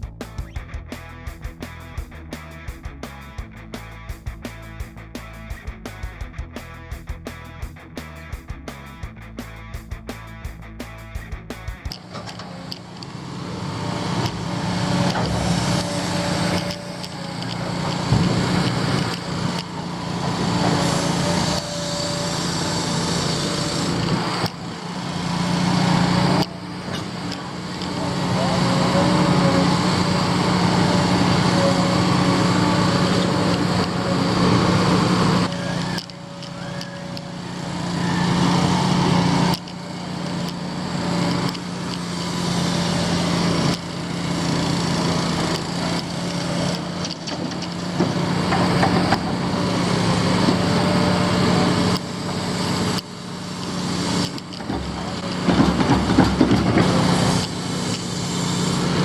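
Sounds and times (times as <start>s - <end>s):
diesel machinery engine droning: 0.0s - 59.0s.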